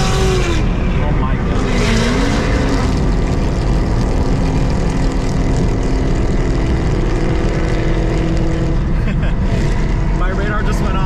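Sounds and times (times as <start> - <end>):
car engine drone in cabin: 0.0 - 11.0.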